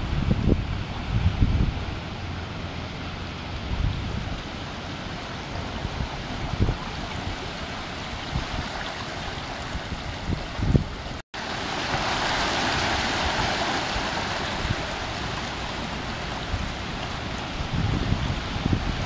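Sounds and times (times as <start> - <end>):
seawater surging through channel: 0.0 - 19.0
wind gusts on microphone: 0.0 - 19.0.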